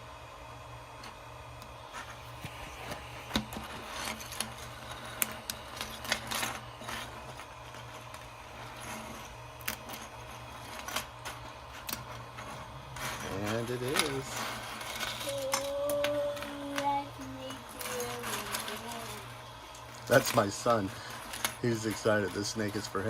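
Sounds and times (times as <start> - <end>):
plastic segments clicking and rattling: 3.3 - 23.0.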